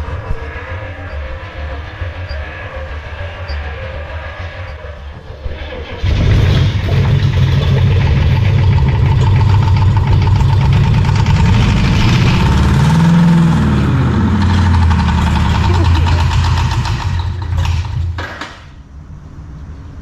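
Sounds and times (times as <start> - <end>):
engine revving: 0.0 - 18.2
diesel engine cranking and running: 0.0 - 18.9.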